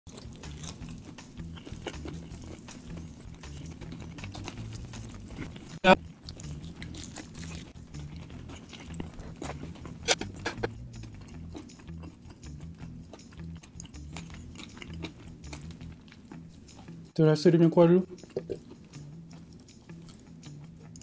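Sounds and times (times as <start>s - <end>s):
chewing fried chicken: 0.1s - 17.2s, 18.2s - 21.0s.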